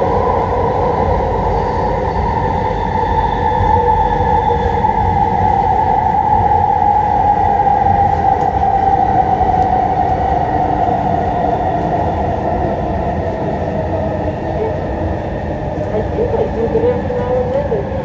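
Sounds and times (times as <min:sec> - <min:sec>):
train wheel rumble: 0:00.0 - 0:18.0.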